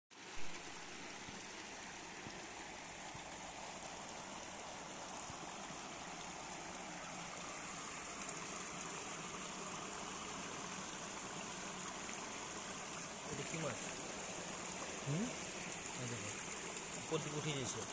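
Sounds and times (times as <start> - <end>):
water rushing and splashing: 0.1 - 17.9.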